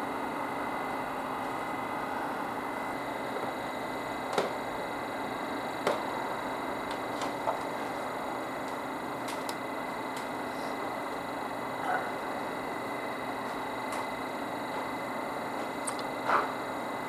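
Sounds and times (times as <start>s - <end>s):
faint high whine: 0.0s - 17.0s
steady hum and hiss: 0.0s - 17.0s.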